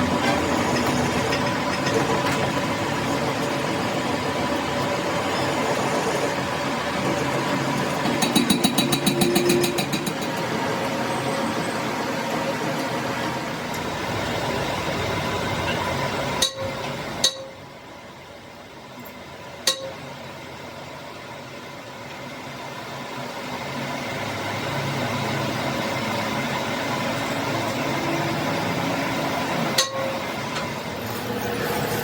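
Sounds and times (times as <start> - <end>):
mechanical workshop noise: 0.0 - 32.0.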